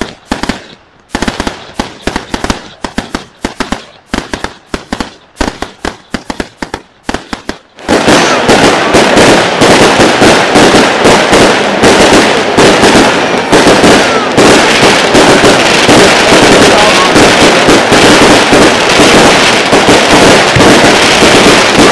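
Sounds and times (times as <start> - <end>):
fireworks exploding: 0.0 - 21.9.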